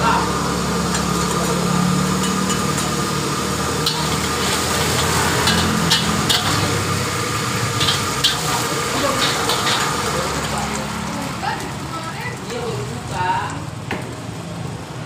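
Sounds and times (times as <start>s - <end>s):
utensils scraping steel wok: 0.0s - 13.2s
sauce sizzling: 0.0s - 14.8s.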